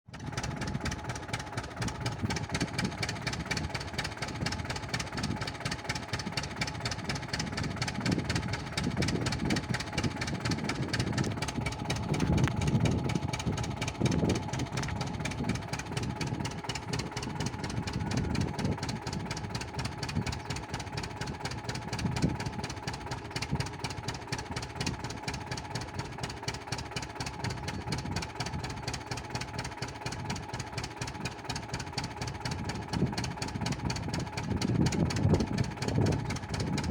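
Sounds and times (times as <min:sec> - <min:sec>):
tractor engine knocking steadily: 0:00.0 - 0:36.9.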